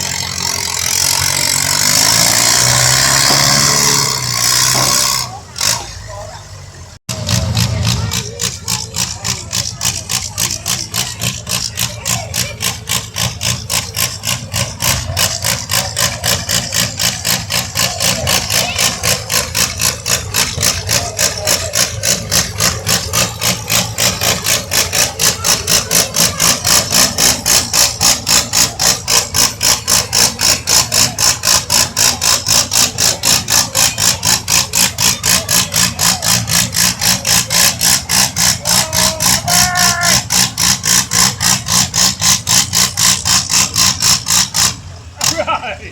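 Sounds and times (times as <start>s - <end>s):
large engine idling with lope: 0.0s - 45.9s.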